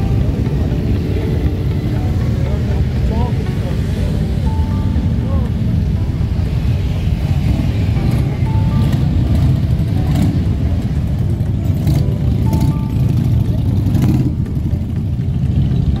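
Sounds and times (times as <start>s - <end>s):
heavy low rumble: 0.0s - 16.0s
repeating melodic music: 0.0s - 16.0s.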